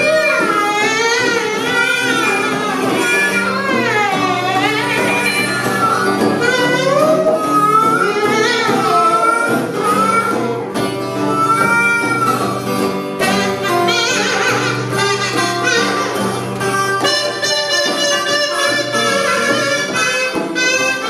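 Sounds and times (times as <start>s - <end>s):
acoustic guitar strumming: 0.0s - 21.0s
buzzing kazoo: 0.0s - 21.0s
hand drum: 0.0s - 21.0s
harmonica: 0.0s - 21.0s.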